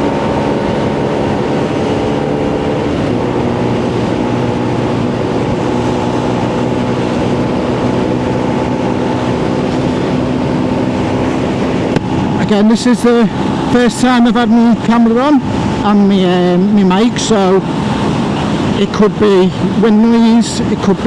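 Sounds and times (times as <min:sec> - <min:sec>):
motorcycle engine running: 0:00.0 - 0:18.8
wind noise on microphone: 0:00.0 - 0:21.0.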